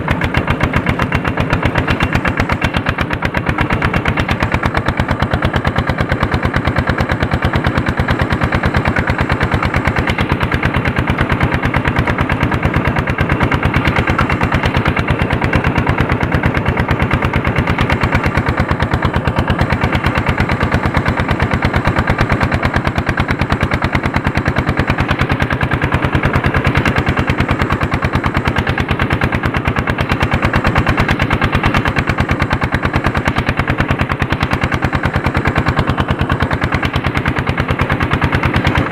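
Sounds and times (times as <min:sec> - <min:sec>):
diesel tractor engine under load: 0:00.0 - 0:38.9.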